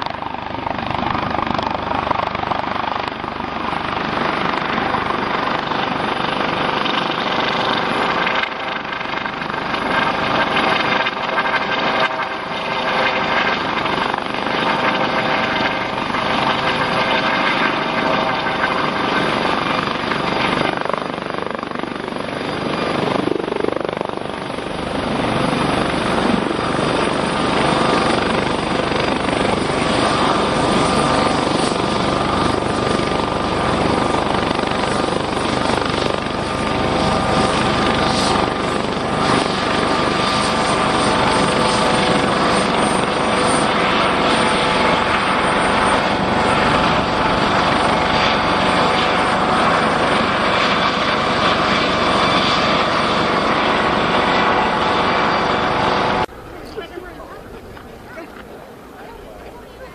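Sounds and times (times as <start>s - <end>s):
helicopter rotors and engine: 0.0s - 59.9s.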